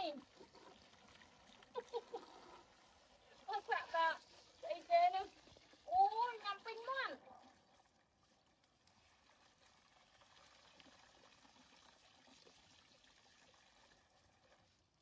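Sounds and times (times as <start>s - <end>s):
hose water splashing into tub: 0.0s - 15.0s.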